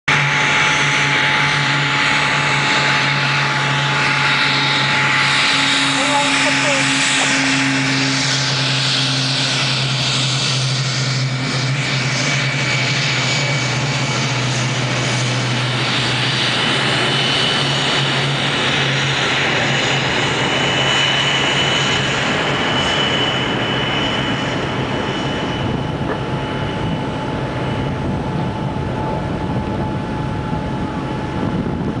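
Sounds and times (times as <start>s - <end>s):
airplane engines droning at takeoff: 0.1s - 32.0s.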